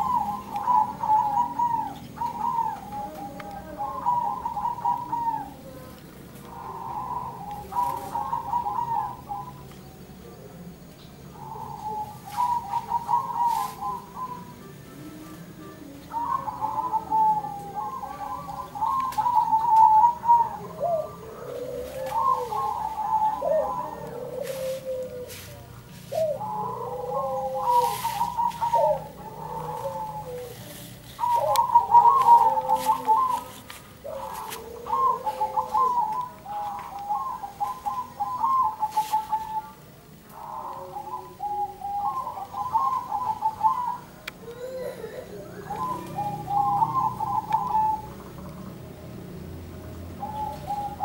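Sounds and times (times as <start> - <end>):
lower rising-and-falling dove coos: 0.0 - 9.7, 11.3 - 48.8, 50.2 - 51.0.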